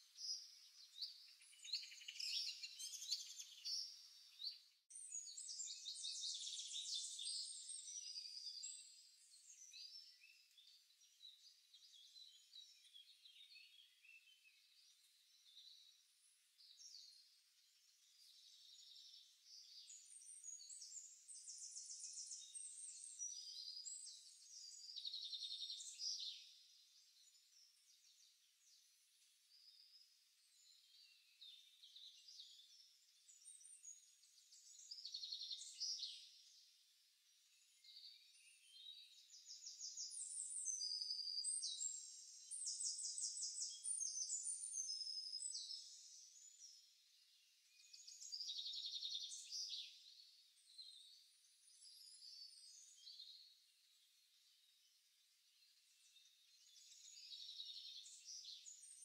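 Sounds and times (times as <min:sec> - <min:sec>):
birds chirping and trilling: 0:00.0 - 0:29.0, 0:37.5 - 0:54.6, 0:55.5 - 0:59.0.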